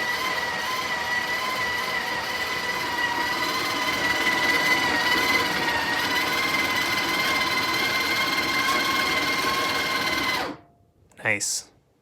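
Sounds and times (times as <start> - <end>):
coffee grinder whining: 0.0 - 10.6.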